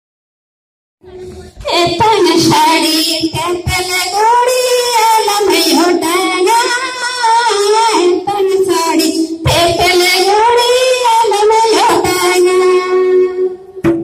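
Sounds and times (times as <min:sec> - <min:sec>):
women singing together: 0:01.2 - 0:12.9.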